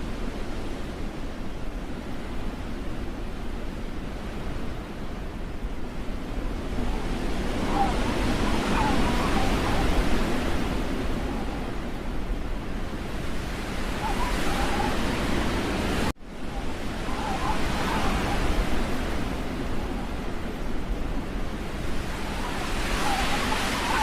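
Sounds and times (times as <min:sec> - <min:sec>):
rushing wind: 0:00.0 - 0:24.0.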